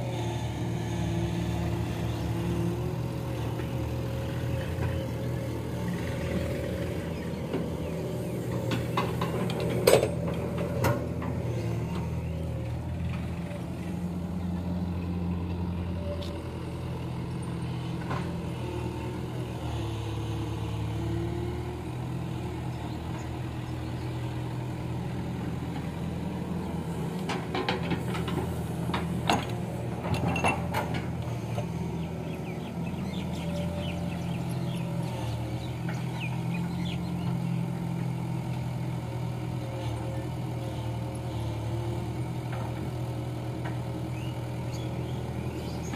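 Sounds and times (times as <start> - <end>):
diesel engines idling: 0.0 - 45.9.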